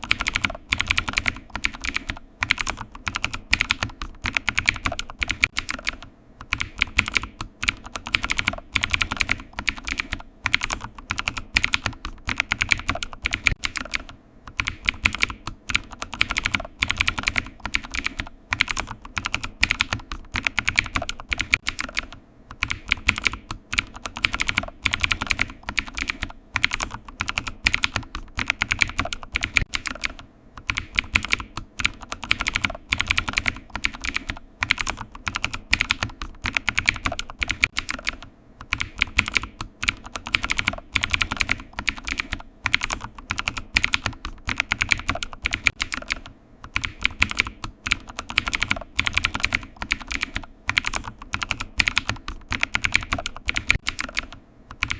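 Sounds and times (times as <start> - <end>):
keyboard typing: 0.0 - 54.9.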